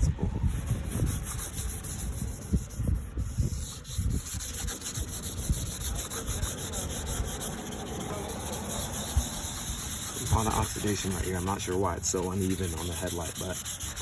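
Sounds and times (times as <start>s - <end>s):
sandpaper rubbing on plastic: 0.4s - 14.0s.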